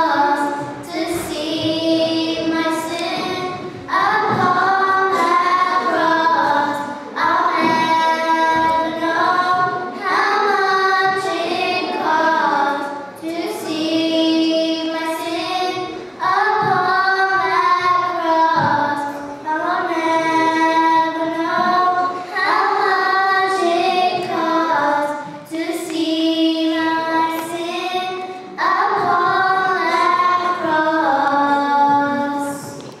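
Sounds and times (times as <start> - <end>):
girls singing a hymn: 0.0 - 33.0.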